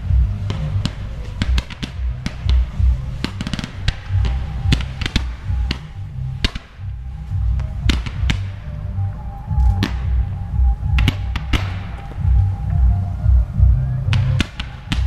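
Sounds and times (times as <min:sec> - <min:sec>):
continuous low rumble: 0:00.0 - 0:15.0
fireworks bangs and crackles: 0:00.0 - 0:15.0
music playing: 0:00.0 - 0:15.0.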